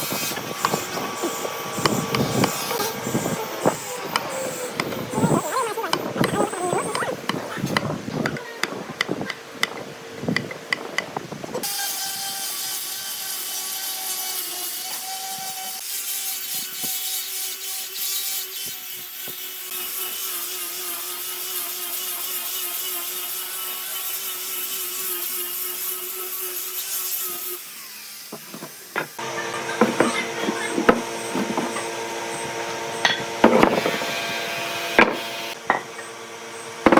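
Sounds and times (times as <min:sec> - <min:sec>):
power tool cutting wood: 0:00.0 - 0:08.8, 0:11.6 - 0:36.9.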